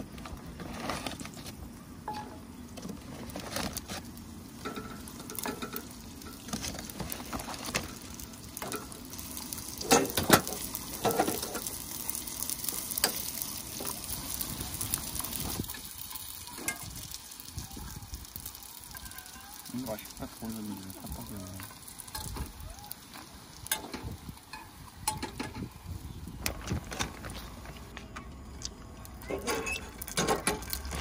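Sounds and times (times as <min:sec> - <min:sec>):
food sizzling in a frying pan: 0:00.8 - 0:31.0.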